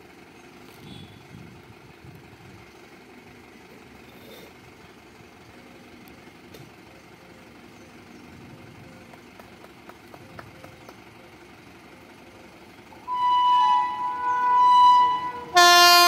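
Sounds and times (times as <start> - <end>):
vehicle engines idling: 0.0 - 16.0.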